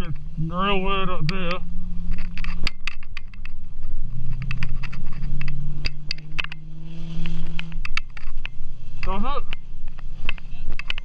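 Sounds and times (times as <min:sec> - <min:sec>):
car engine running at low revs: 0:00.0 - 0:11.0
sharp clicks and scrapes: 0:01.3 - 0:11.0.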